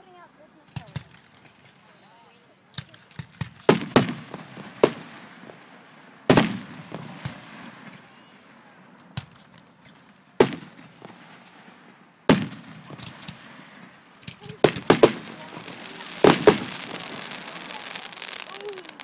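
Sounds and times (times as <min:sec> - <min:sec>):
fireworks bursting: 0:00.6 - 0:19.0.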